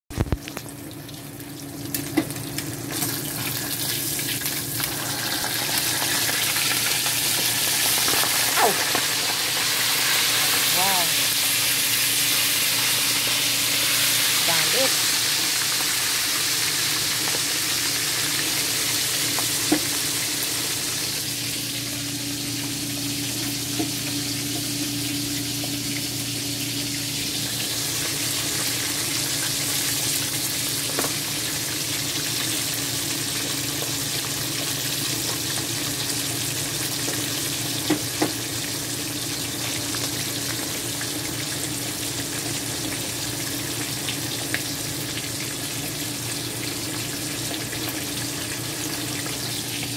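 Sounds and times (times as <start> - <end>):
fish sizzling in oil: 0.2 - 49.9.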